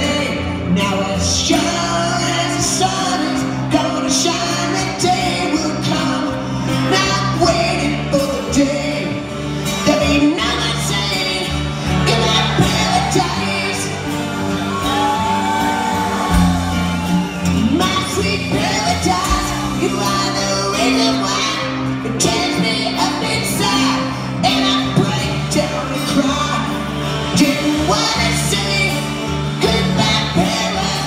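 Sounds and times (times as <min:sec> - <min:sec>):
live rock band playing: 0:00.0 - 0:31.0
man singing lead vocal: 0:00.0 - 0:31.0.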